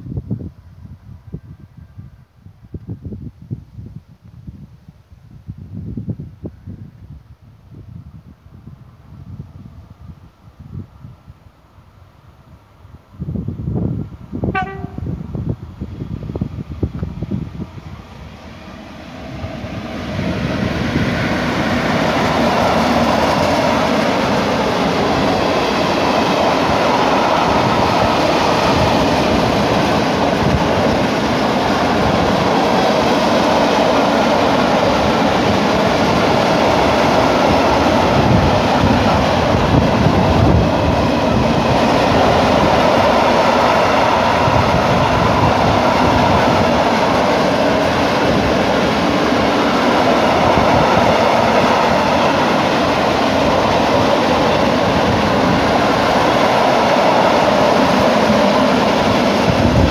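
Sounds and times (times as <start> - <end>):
freight train passing: 7.7 - 59.9.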